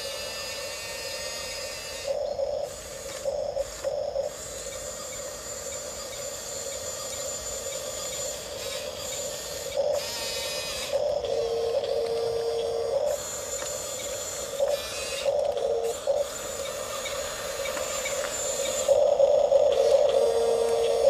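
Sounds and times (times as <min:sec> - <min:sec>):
electric motors and gearboxes whining: 0:00.0 - 0:21.0
louder buzz: 0:00.0 - 0:21.0.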